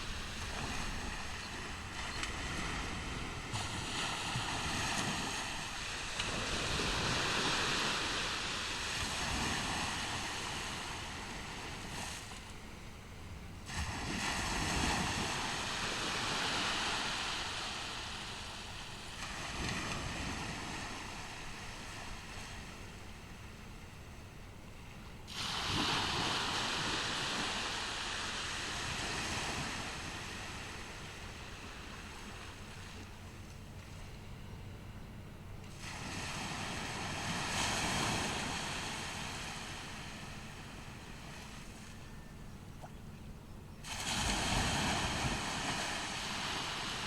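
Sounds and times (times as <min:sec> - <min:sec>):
ocean waves breaking on beach: 0:00.0 - 0:34.7, 0:35.6 - 0:47.0.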